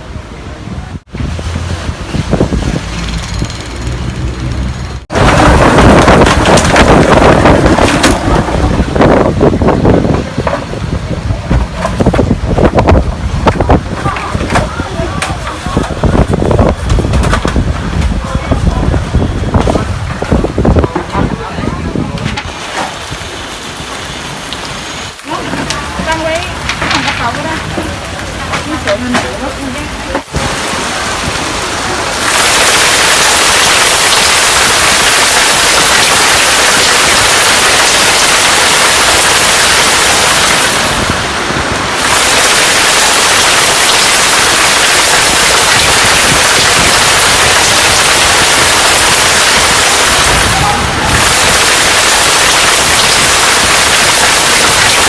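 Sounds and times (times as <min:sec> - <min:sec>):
storm wind buffeting microphone: 0:00.0 - 0:04.0, 0:05.1 - 0:23.3, 0:27.3 - 0:55.0
pouring rain: 0:00.0 - 0:55.0.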